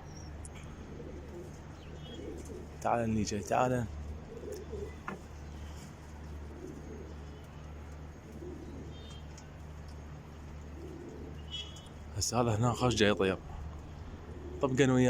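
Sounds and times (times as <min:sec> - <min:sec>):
pigeons cooing: 0:00.0 - 0:15.0
steady low hum: 0:00.0 - 0:15.0.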